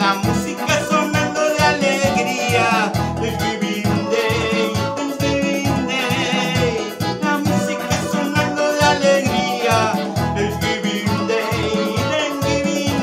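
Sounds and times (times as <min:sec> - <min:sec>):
electronic keyboard melody: 0:00.0 - 0:13.0
merengue bass beat: 0:00.0 - 0:13.0.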